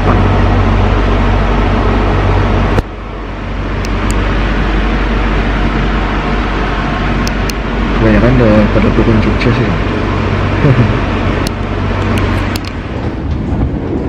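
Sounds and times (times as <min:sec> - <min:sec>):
low hum: 0:00.0 - 0:14.0
train running noise: 0:00.0 - 0:14.0.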